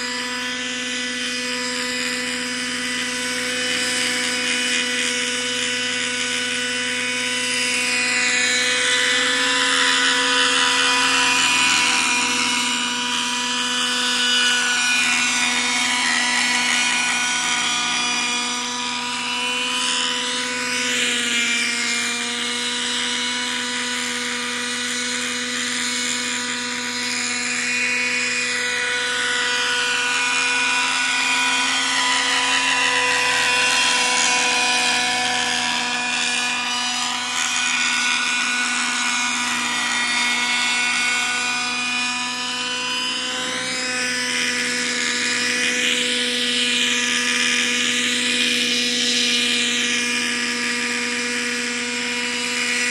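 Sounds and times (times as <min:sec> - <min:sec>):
model helicopter engine whine: 0:00.0 - 0:52.9.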